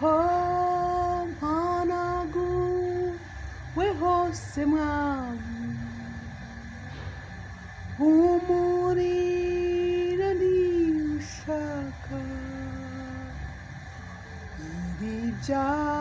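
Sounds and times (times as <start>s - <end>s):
woman singing slow worship song: 0.0s - 6.8s, 7.9s - 13.6s, 14.6s - 16.0s.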